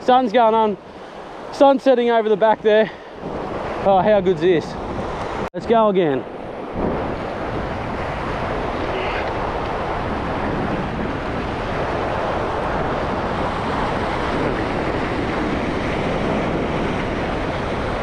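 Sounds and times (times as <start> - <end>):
ocean surf over rocks: 0.0 - 18.0
wind buffeting microphone: 0.0 - 18.0.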